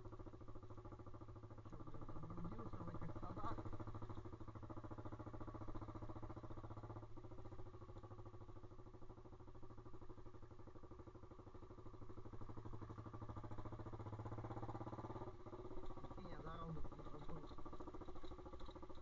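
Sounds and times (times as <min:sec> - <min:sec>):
pit bike engine running: 0:00.0 - 0:19.0.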